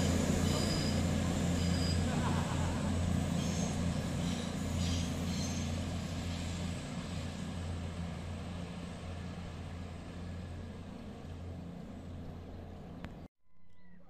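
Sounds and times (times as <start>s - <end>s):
train diesel engines droning: 0.0s - 13.3s.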